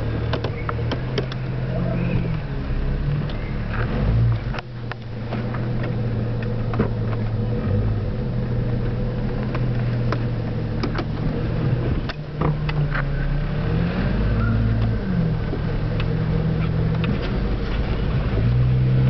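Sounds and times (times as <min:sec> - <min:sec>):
car engine drone from inside cabin: 0:00.0 - 0:19.0.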